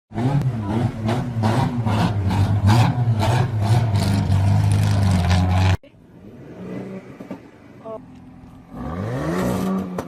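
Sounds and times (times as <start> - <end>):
car engine drone: 0.1 - 10.0.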